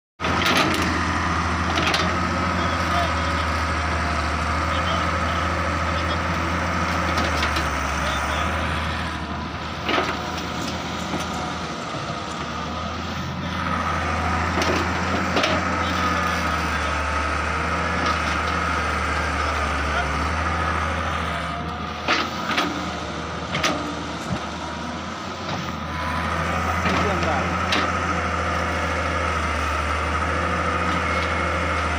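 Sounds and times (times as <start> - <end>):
excavator engine running: 0.2 - 31.9.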